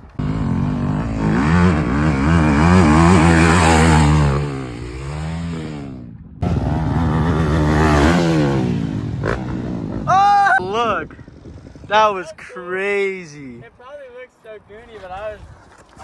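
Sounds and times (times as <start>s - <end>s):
dirt bike engine revving: 0.0s - 13.6s.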